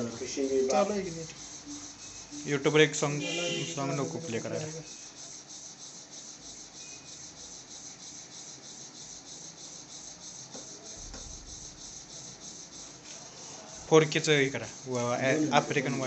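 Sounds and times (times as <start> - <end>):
faint room noise hiss: 0.0 - 16.0.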